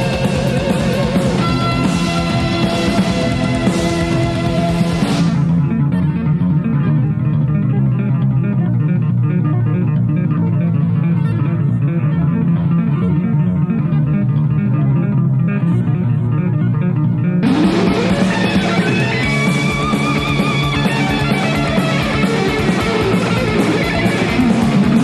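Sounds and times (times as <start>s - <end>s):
electric guitar fast run: 0.0s - 7.7s, 8.3s - 25.0s
bass guitar: 0.0s - 25.0s.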